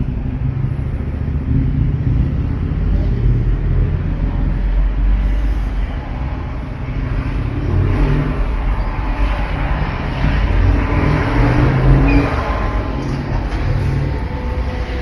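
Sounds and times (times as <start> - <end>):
car accelerating: 0.0 - 15.0
car engines passing close by: 0.0 - 15.0.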